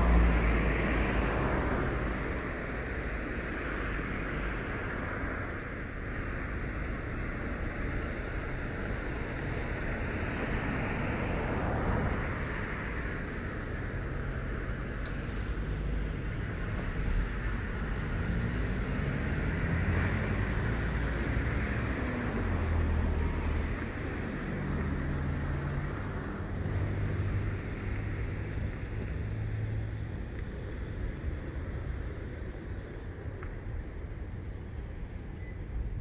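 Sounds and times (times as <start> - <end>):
vehicles passing on road: 0.0 - 36.0.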